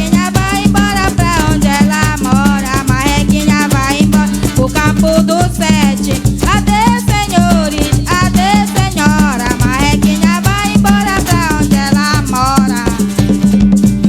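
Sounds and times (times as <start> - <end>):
shaken rattle beat: 0.0 - 14.0
upbeat folk dance music: 0.0 - 14.0.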